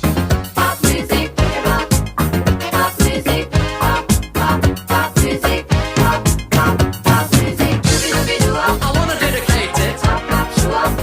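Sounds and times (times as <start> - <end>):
upbeat funk music: 0.0 - 11.0.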